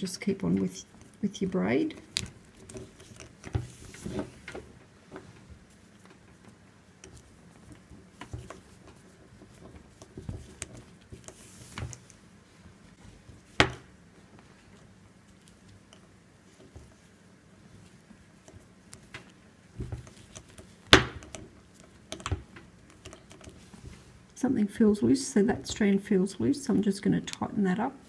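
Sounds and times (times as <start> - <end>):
cord strands rubbing and rustling: 0.0 - 24.4.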